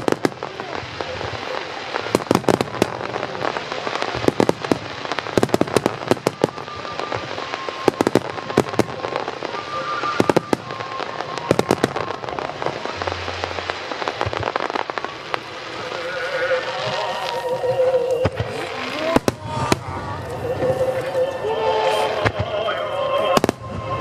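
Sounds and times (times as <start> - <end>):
fireworks bursting with sharp bangs: 0.0 - 24.0
rumbling of explosions: 0.0 - 24.0.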